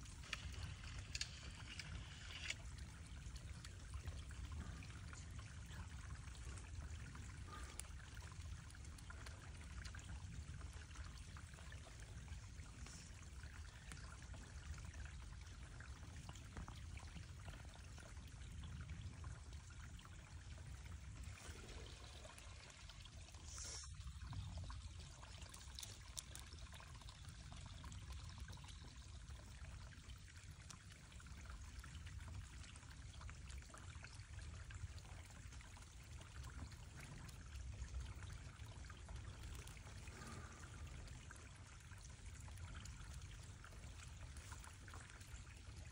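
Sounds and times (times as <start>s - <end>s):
stream trickling: 0.0s - 45.9s.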